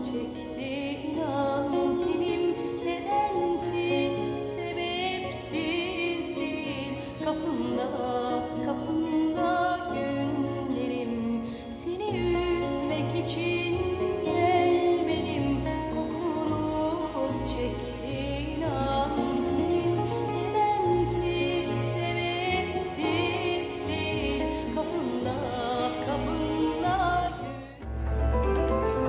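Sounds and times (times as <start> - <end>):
song with singing over instruments: 0.0 - 29.0.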